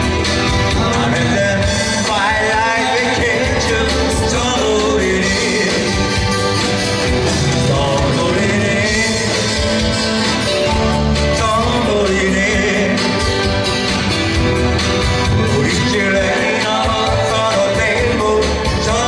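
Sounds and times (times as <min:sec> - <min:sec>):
strummed acoustic guitars: 0:00.0 - 0:19.0.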